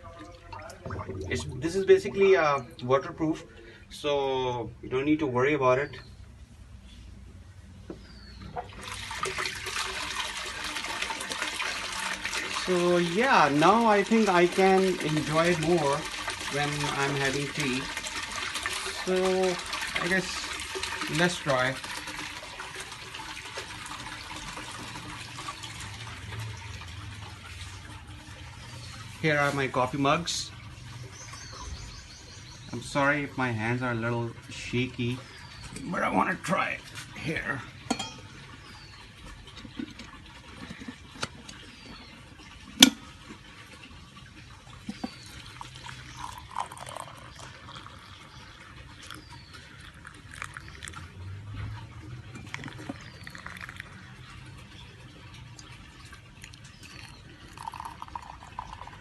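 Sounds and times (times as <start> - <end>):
fountain water splashing and trickling: 0.0 - 4.4, 8.6 - 59.0.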